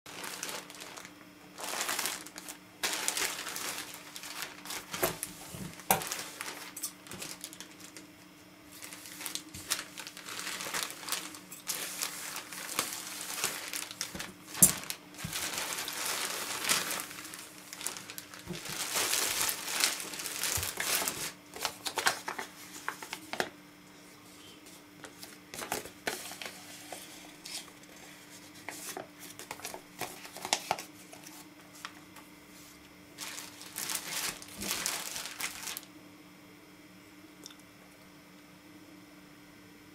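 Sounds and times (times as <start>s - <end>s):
plastic bag crinkling: 0.1s - 8.1s, 8.8s - 23.5s, 25.0s - 32.0s, 33.2s - 35.9s.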